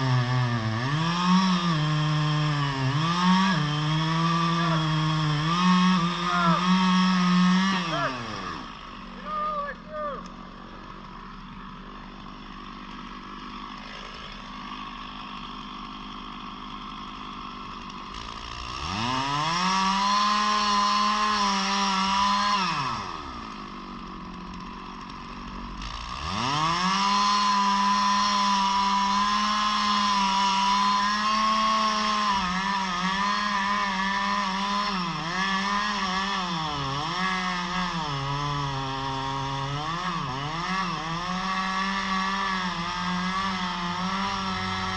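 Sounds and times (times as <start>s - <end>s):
chainsaw cutting tree: 0.0s - 44.9s
chainsaw idling and revving: 0.0s - 44.9s.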